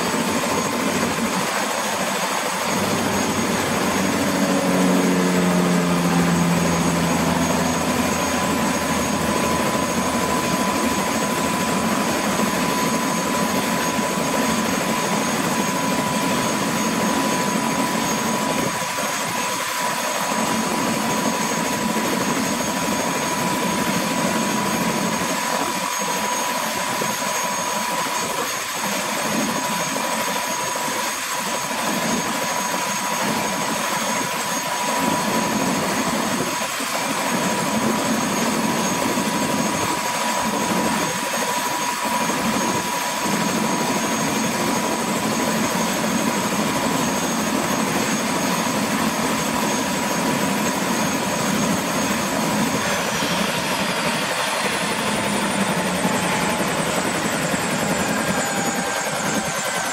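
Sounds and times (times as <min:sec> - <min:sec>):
helicopter rotor rush: 0:00.0 - 0:59.9
helicopter turbine whine: 0:00.0 - 0:59.9.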